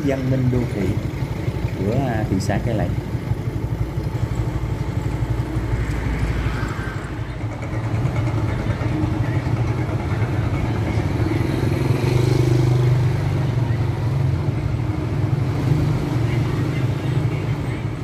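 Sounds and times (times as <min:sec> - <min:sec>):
low road rumble: 0:00.0 - 0:18.0
vehicle engine running: 0:00.0 - 0:18.0.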